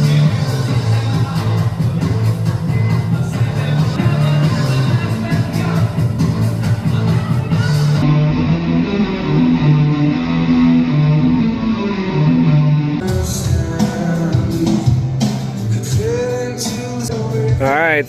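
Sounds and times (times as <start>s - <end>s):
guitar rock music: 0.0s - 18.0s.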